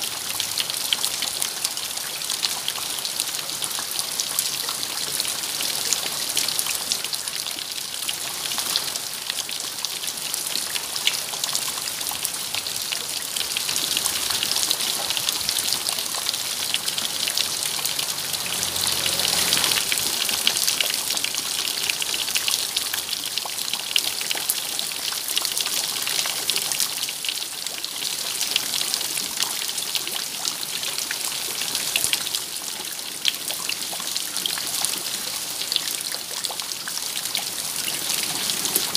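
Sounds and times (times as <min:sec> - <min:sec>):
rain drops hitting a surface: 0:00.0 - 0:38.9.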